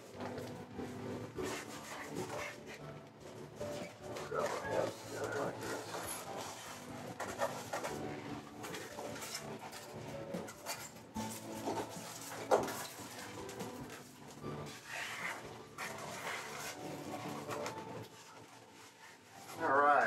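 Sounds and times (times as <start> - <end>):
foam boards squeaking and rubbing: 0.0 - 3.0, 3.6 - 20.0.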